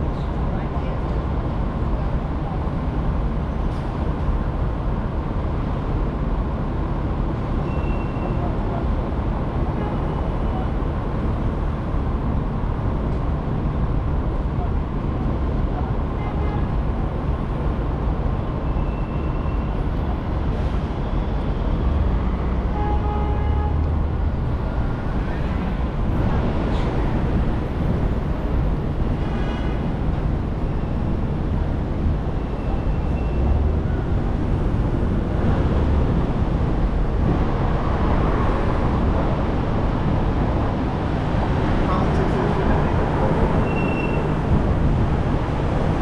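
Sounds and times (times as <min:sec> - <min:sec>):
engine and tyre rumble: 0:00.0 - 0:46.0.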